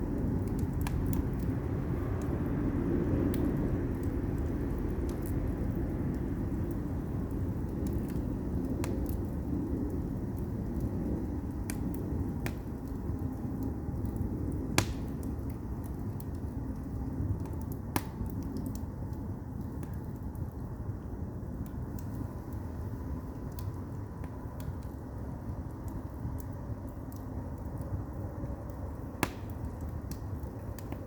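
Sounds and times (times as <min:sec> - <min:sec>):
wood fire rumbling and crackling: 0:00.0 - 0:31.0.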